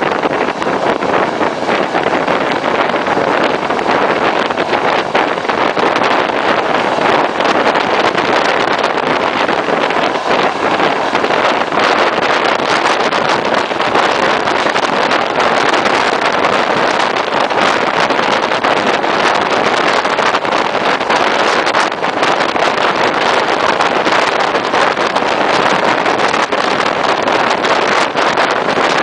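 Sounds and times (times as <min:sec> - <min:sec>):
moving train rushing noise: 0:00.0 - 0:29.0
wind buffeting microphone: 0:00.0 - 0:29.0.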